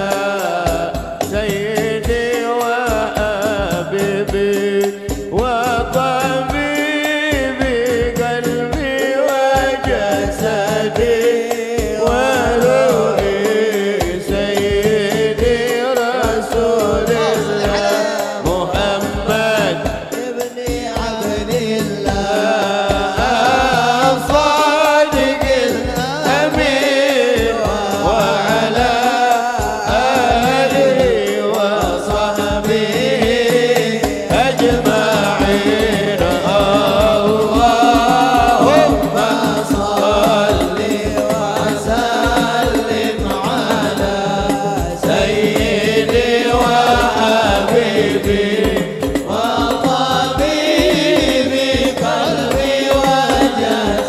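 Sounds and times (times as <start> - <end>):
hand frame drums and bass drums: 0.0 - 54.0
man singing into a microphone: 0.0 - 54.0.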